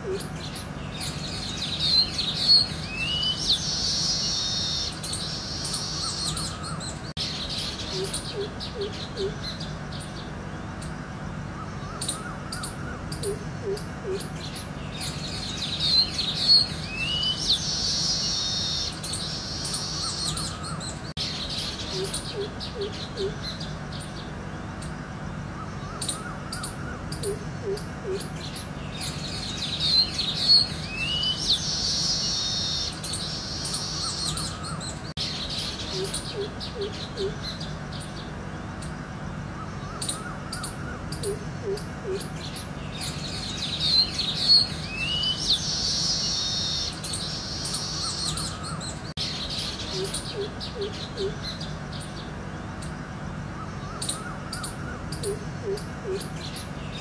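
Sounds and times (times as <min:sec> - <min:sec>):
birds chirping and trilling: 0:00.0 - 0:57.0
steady low hum: 0:00.0 - 0:57.0.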